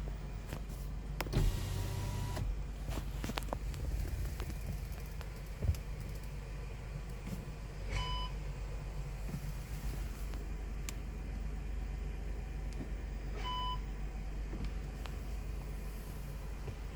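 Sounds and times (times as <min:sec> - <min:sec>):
car drivetrain hum: 0:00.0 - 0:16.9.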